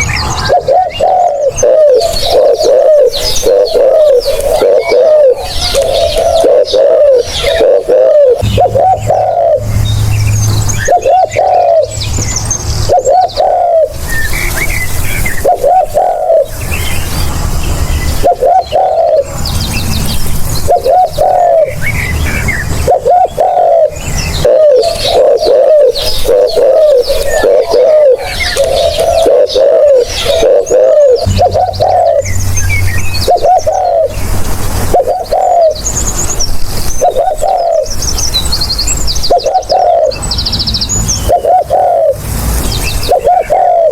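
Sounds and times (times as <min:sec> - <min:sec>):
dove cooing: 0:00.0 - 0:12.2, 0:12.8 - 0:14.6, 0:15.2 - 0:16.6, 0:18.2 - 0:19.4, 0:20.6 - 0:36.1, 0:36.9 - 0:38.0, 0:39.2 - 0:40.2, 0:41.2 - 0:42.3, 0:42.9 - 0:43.9
small birds chirping: 0:00.0 - 0:43.9.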